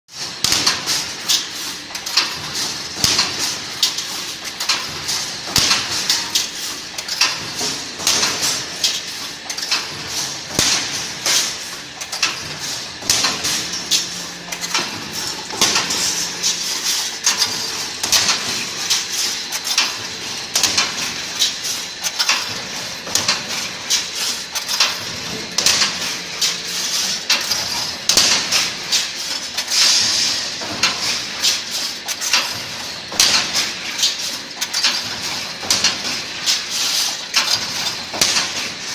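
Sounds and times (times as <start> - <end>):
welding machine clanking: 0.2 - 38.9
welding machine hiss: 0.2 - 38.9.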